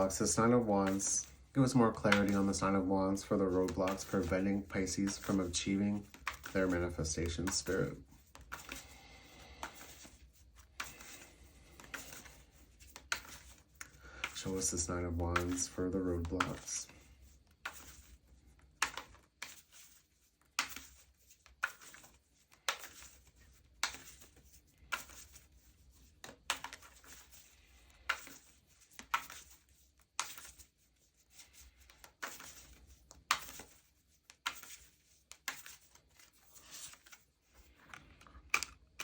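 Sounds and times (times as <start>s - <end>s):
cards being shuffled: 0.0s - 39.0s.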